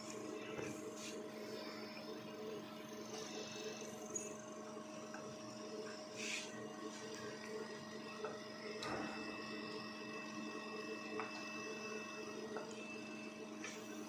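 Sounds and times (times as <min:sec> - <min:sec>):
ventilator machine hum: 0:00.0 - 0:14.0.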